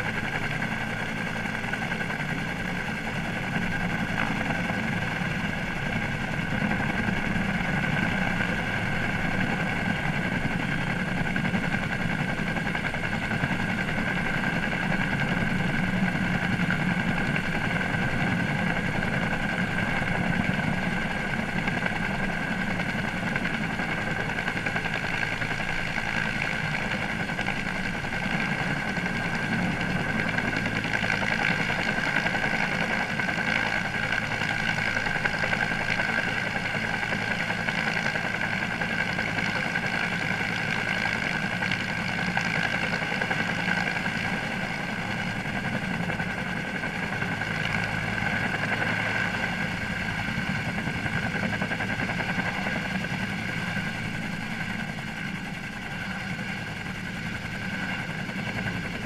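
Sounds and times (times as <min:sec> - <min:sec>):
helicopter flying: 0:00.0 - 0:59.0.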